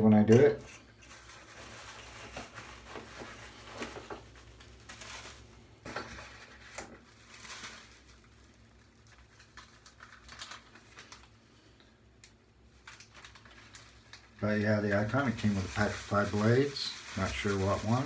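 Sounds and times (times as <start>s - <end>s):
packaging rustling and crinkling: 0.8s - 18.0s.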